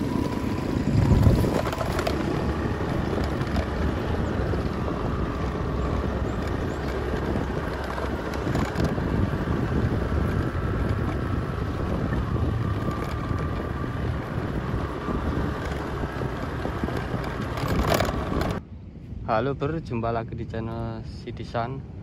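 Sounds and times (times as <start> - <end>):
vehicle rumble on dirt track: 0.0 - 18.7
wind buffeting microphone: 0.0 - 22.0.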